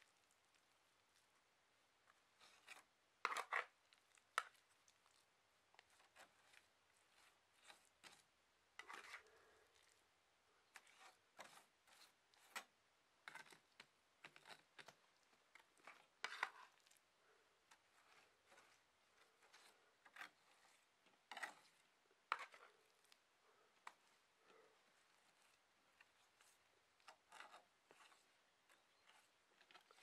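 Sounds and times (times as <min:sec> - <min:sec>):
trowel scraping wet plaster: 0:02.4 - 0:03.8, 0:05.8 - 0:09.9, 0:10.6 - 0:17.0, 0:17.7 - 0:30.0.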